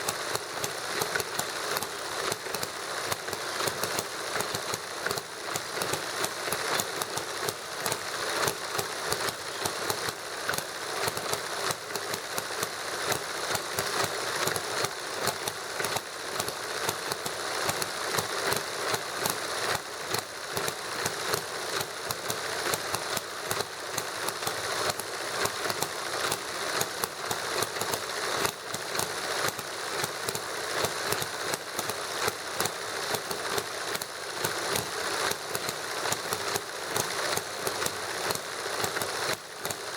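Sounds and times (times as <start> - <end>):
small engines ticking and clattering: 0.0 - 39.9.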